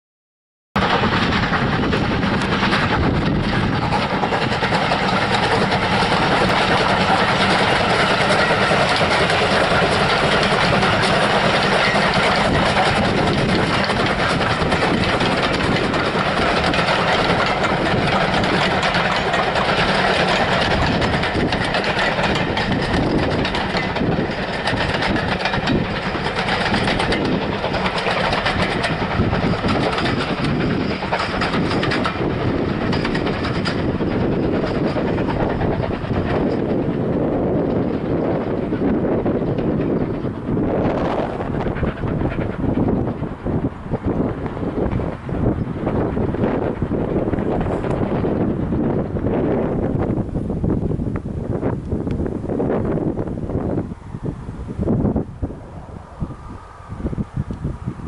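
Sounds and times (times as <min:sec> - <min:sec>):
coaches rolling over rails: 0:00.8 - 0:58.0
steam locomotive working hard: 0:00.8 - 0:58.0.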